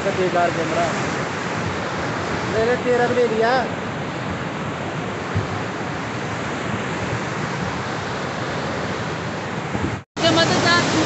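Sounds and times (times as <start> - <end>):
rushing floodwater: 0.0 - 11.0.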